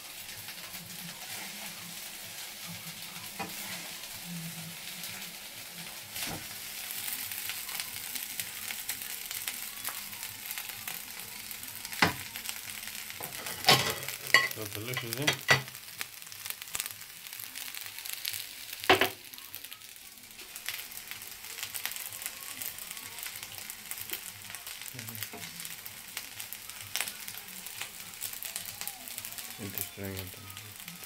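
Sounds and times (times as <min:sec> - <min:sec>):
fried rice sizzling in a pan: 0:00.0 - 0:31.0.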